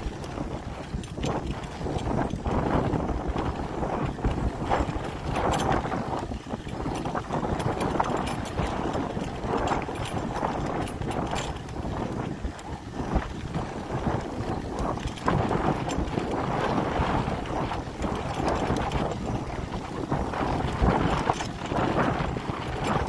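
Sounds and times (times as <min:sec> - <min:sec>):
bicycle tyres crunching gravel: 0:00.0 - 0:23.0
small clicks and crackles: 0:00.0 - 0:23.0
wind buffeting microphone: 0:00.0 - 0:23.0.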